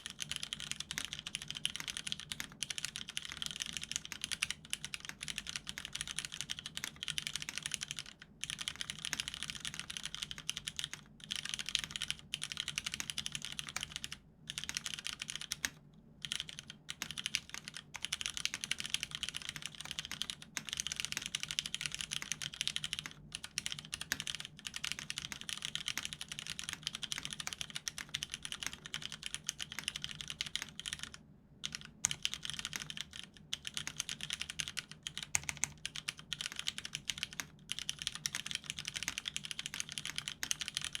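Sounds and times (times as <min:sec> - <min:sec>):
mechanical keyboard typing: 0:00.0 - 0:41.0.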